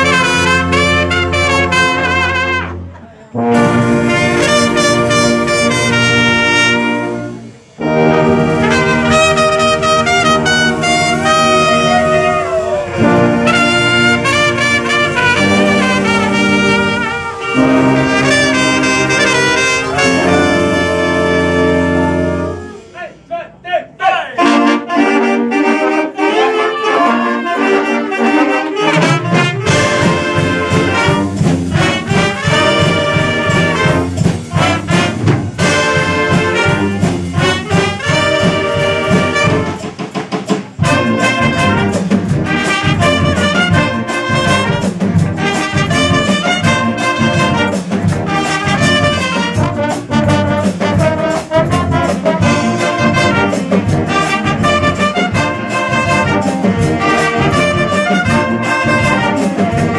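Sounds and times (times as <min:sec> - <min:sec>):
low brass: 0:00.0 - 0:39.9, 0:40.8 - 0:59.9
brass band playing loudly: 0:00.0 - 0:59.9.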